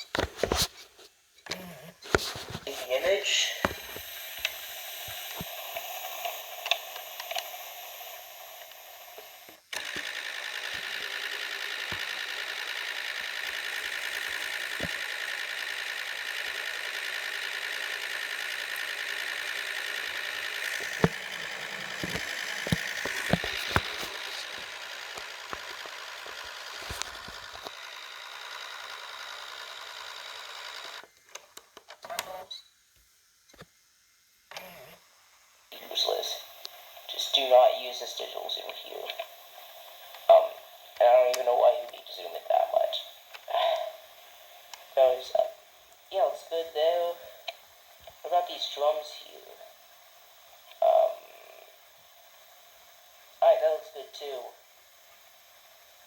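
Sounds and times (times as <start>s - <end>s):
camcorder mechanical whir and hiss: 1.4s - 33.8s, 34.5s - 56.0s.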